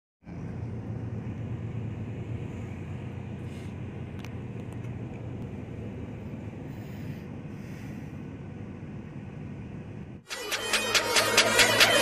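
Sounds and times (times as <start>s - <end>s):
car engine and tyres rumbling: 0.2s - 12.0s.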